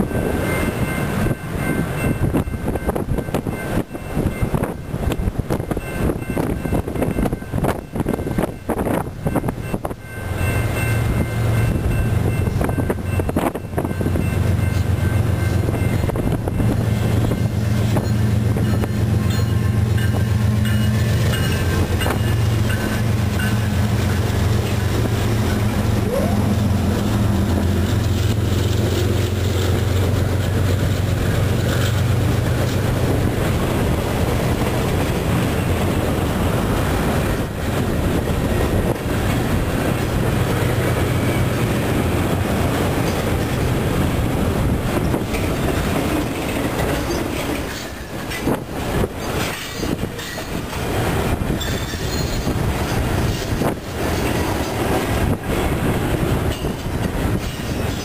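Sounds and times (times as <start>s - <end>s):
diesel locomotive drone: 0.0s - 58.0s
freight cars rumbling: 0.0s - 58.0s
wheels clacking over rail joints: 0.0s - 58.0s.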